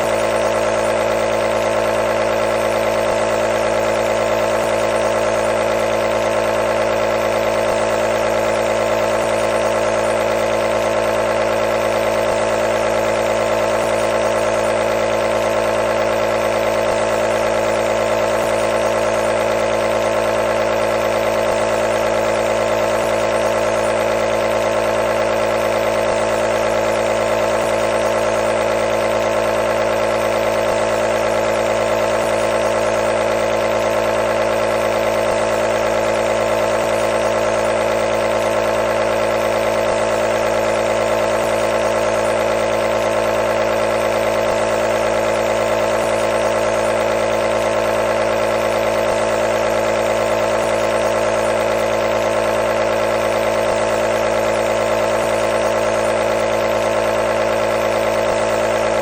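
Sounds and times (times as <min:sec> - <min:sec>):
air compressor buzzing hum: 0:00.0 - 0:59.0.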